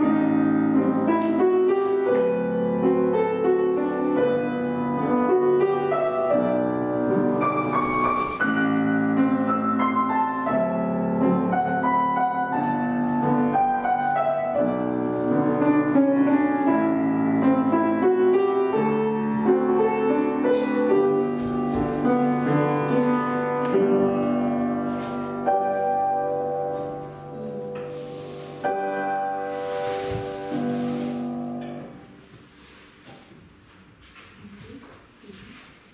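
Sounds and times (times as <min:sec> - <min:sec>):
slow classical piano: 0:00.0 - 0:35.9.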